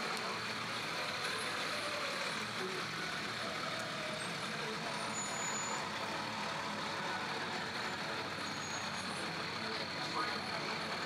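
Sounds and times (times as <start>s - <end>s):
fire engine running: 0.0s - 11.0s.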